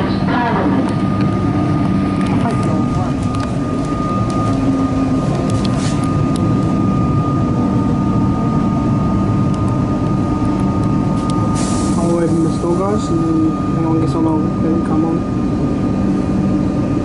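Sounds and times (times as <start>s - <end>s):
high whine: 0.0s - 17.0s.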